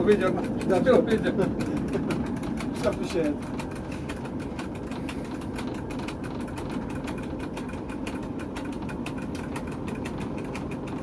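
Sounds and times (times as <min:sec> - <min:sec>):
diesel engine rumbling and clattering: 0:00.0 - 0:11.0.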